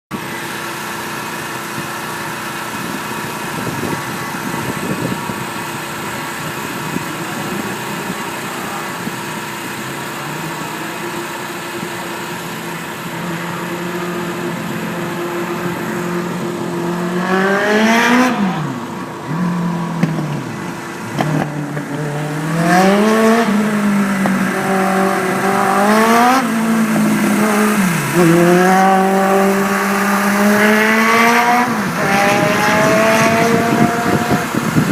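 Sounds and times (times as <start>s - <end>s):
race car engine revving: 1.5s - 34.9s.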